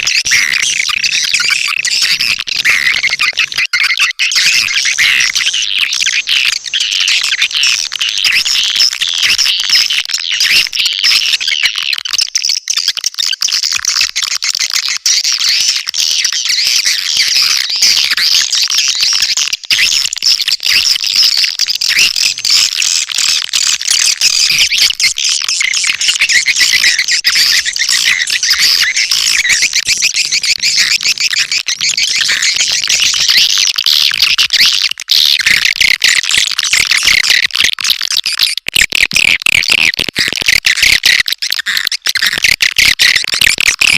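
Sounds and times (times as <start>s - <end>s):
swiftlets chirping and twittering: 0.0s - 43.9s.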